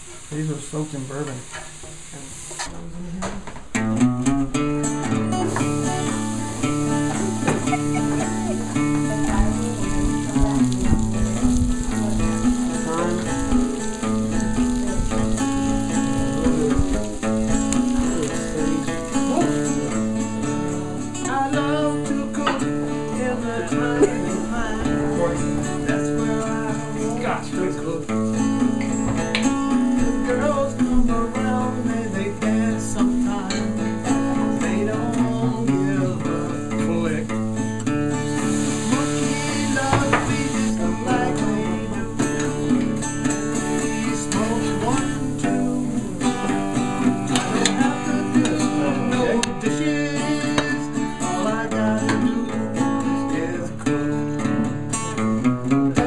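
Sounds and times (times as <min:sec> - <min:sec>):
guitar background music: 0:02.6 - 0:56.0.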